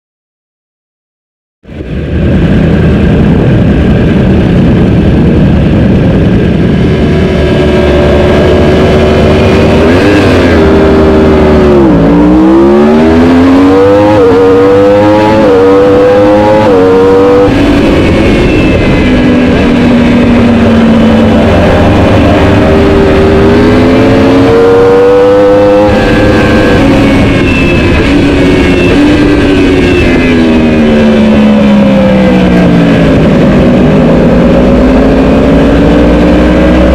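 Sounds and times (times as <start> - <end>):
superbike engine revving: 2.4 - 36.9.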